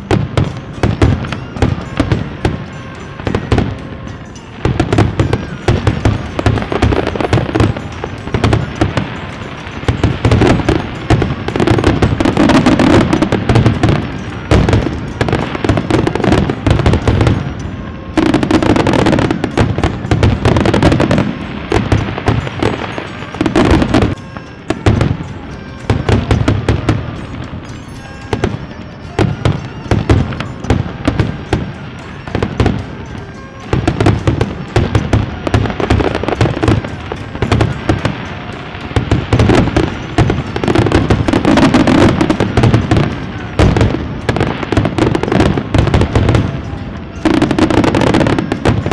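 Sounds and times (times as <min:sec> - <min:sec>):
fireworks bangs and crackling: 0:00.0 - 0:48.9
music playing: 0:00.0 - 0:48.9.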